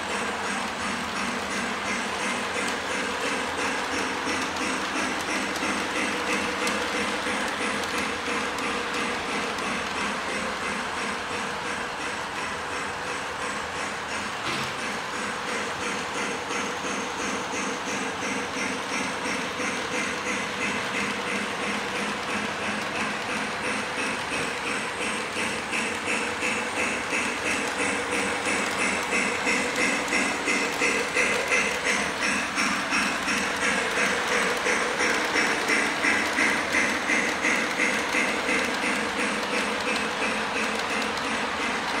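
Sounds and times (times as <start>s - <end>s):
model train clacking on track: 0.0s - 42.0s.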